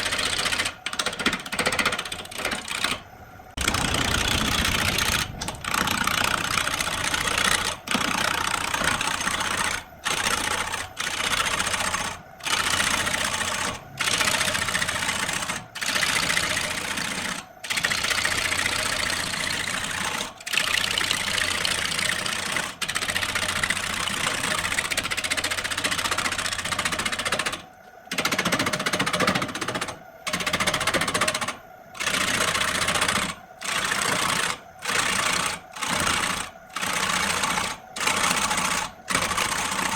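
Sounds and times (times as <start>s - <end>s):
lathe motor hum: 0.0s - 39.9s.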